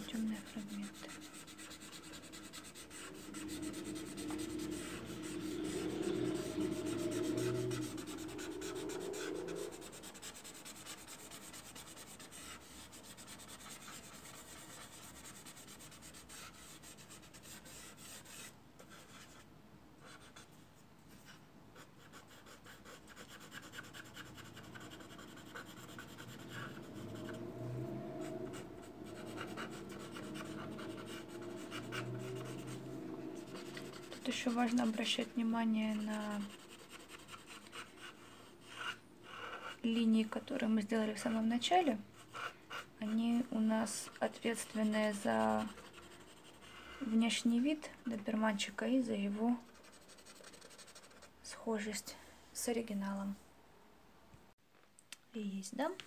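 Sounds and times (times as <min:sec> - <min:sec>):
pastel scratching on rough paper: 0:00.0 - 0:19.5, 0:21.2 - 0:27.6, 0:28.2 - 0:47.7, 0:49.6 - 0:51.3.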